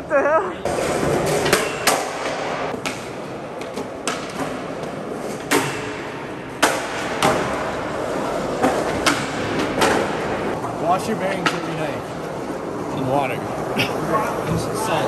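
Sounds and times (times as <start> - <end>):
skateboard wheels rolling on concrete: 0.6 - 15.0.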